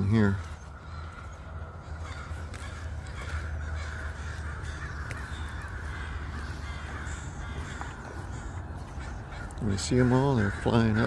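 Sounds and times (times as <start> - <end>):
steady low rumble: 0.0 - 10.6
crows cawing: 0.0 - 11.0.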